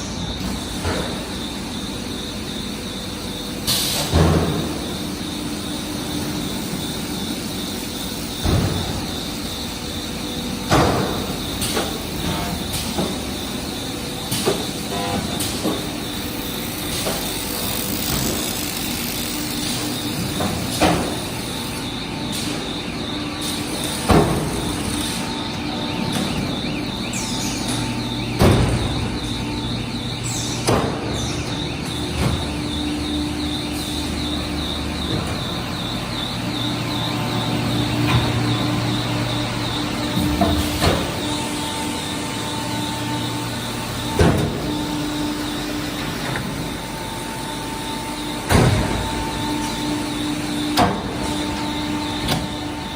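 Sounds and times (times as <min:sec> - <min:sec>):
machine running with hum: 0:00.0 - 0:52.9.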